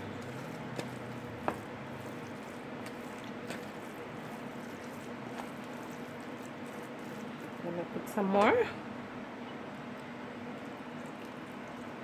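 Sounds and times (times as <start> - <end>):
wet squishing of stirred rice: 0.0 - 7.9, 9.9 - 12.0
steady background hum: 0.0 - 12.0.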